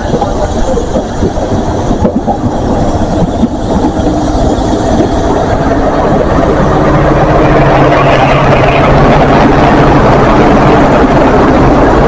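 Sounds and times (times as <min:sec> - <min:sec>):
diesel train engine running: 0:00.0 - 0:12.0
wheel and rail noise: 0:00.0 - 0:12.0.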